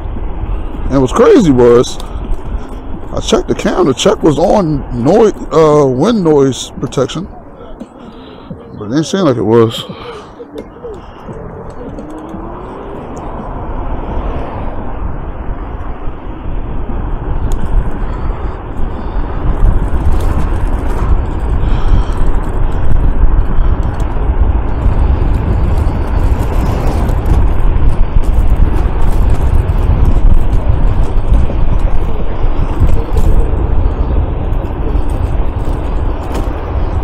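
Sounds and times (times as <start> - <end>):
road noise: 0.0 - 37.0
wind buffeting microphone: 0.0 - 37.0.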